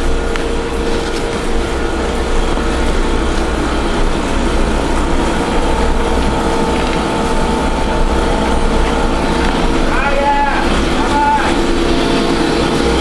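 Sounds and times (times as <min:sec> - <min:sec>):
low rumble: 0:00.0 - 0:13.0
machine humming: 0:00.0 - 0:13.0.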